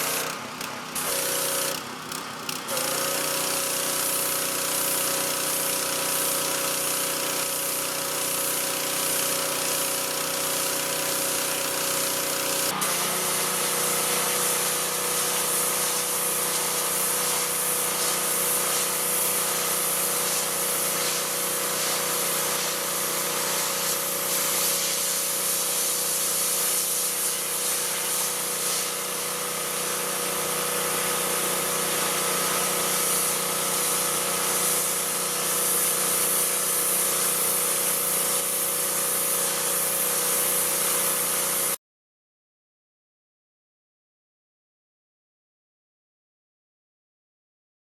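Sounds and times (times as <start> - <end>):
hiss of high-pressure water jet: 0.0 - 0.4, 1.0 - 1.8, 2.7 - 41.8
pressure washer engine hum: 0.0 - 41.8.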